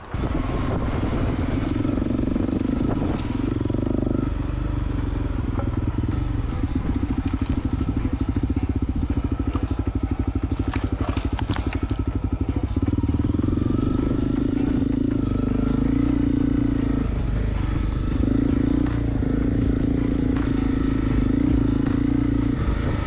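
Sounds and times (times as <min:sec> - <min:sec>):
motorcycle engine chugging: 0:00.0 - 0:23.0.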